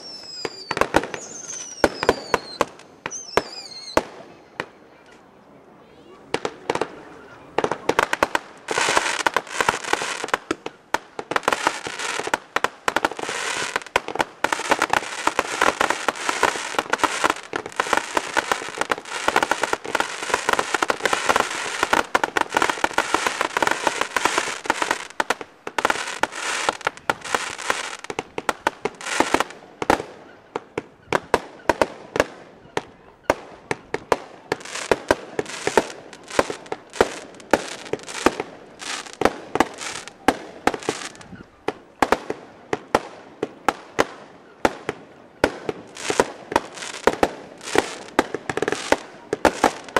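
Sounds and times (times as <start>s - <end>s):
fireworks cracks and bangs: 0.0s - 4.8s, 6.3s - 49.9s
fireworks crackling hiss: 0.0s - 5.0s, 6.1s - 49.9s.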